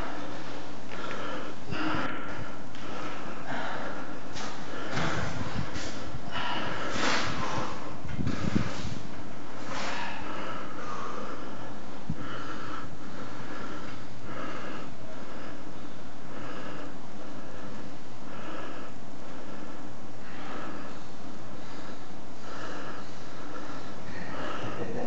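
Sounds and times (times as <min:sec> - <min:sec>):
person breathing heavily: 0:00.0 - 0:25.0.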